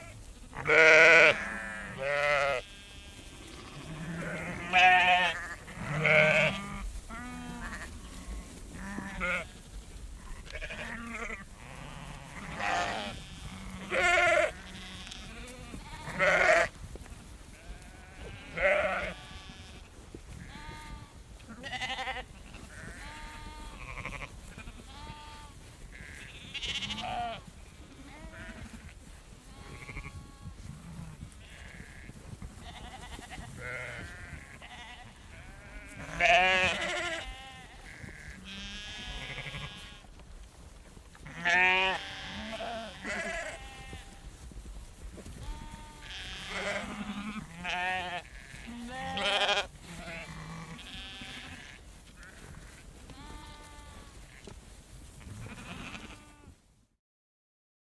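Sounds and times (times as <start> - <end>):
sheep bleating: 0.0 - 9.6, 10.2 - 16.7, 17.6 - 40.1, 41.2 - 44.2, 45.4 - 54.5, 55.2 - 56.6.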